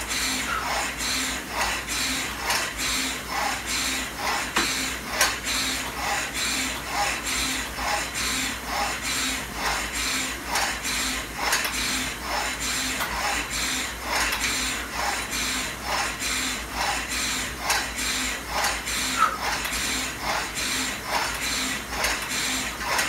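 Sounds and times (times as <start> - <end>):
rowing machine flywheel whirring: 0.0 - 23.0
cables and pulleys rubbing: 0.1 - 23.0.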